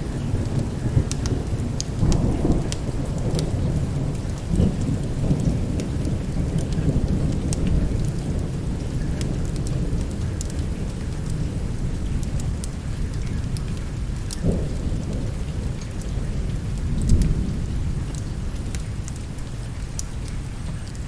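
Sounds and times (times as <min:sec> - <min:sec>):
heavy rain: 0:00.0 - 0:21.0
low rumble of thunder: 0:00.0 - 0:21.0.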